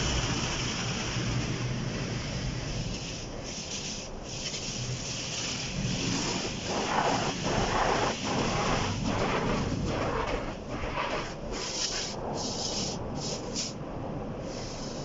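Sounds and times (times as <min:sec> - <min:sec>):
car wash brushes swishing: 0:00.0 - 0:13.8
water spray over car: 0:00.0 - 0:13.8.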